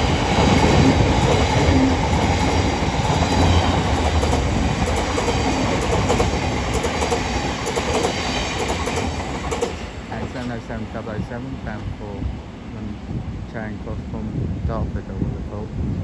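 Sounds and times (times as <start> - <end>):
train wheel and rail noise: 0.0 - 16.0.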